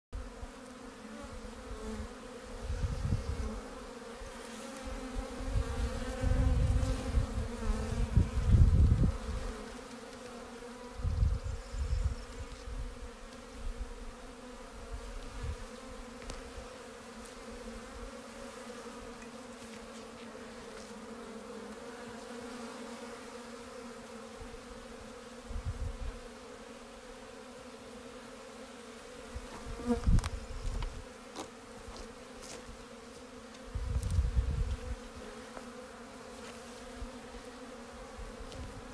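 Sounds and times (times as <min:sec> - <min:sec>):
honeybees buzzing: 0:00.2 - 0:38.9.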